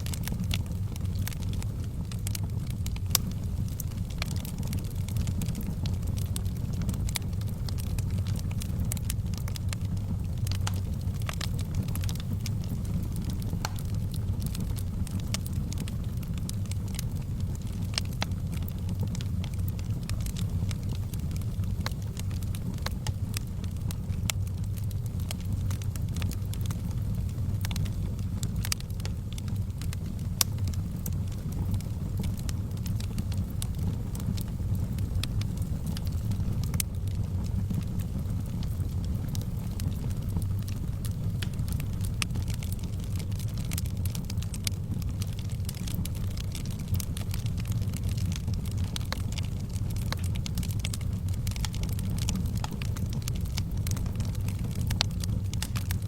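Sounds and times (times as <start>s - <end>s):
fire crackling in fireplace: 0.0s - 56.0s
low rumble of burning: 0.0s - 56.0s.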